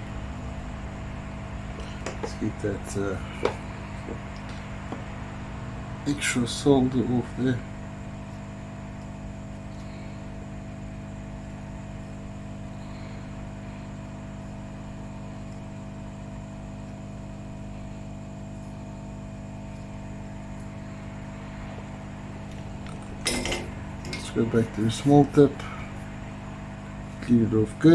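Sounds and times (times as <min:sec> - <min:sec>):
electrical equipment humming: 0:00.0 - 0:27.9.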